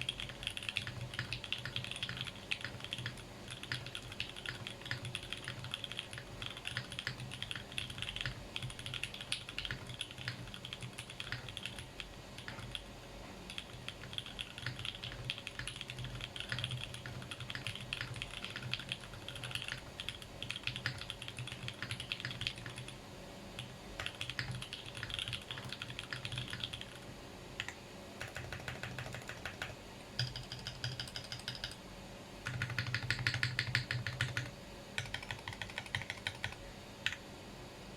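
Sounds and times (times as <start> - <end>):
mechanical keyboard typing: 0.0 - 12.9, 13.5 - 23.0, 23.6 - 31.8, 32.4 - 37.2.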